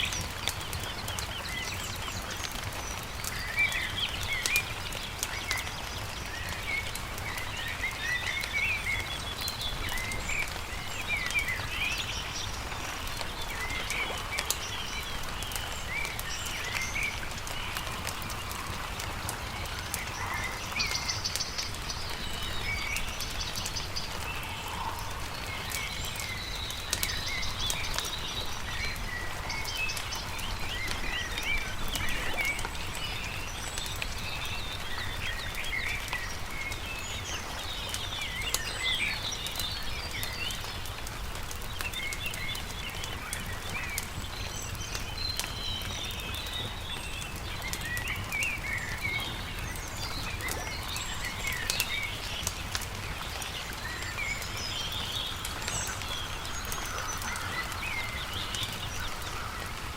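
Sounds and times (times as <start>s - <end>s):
campfire crackling: 0.0s - 59.9s
small birds chirping: 0.0s - 59.9s.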